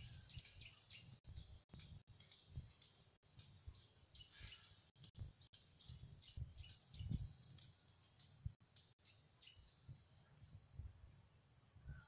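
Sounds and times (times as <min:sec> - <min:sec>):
bird chirps: 0:00.0 - 0:09.9
high insect drone: 0:02.2 - 0:12.0.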